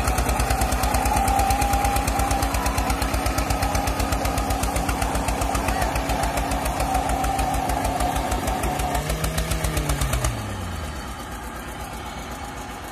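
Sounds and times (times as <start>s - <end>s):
tractor diesel engine labouring: 0.0s - 12.9s.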